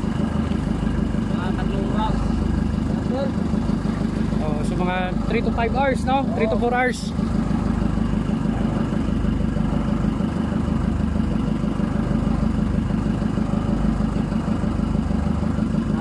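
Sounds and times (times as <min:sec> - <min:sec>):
boat engine pulsing: 0:00.0 - 0:16.0.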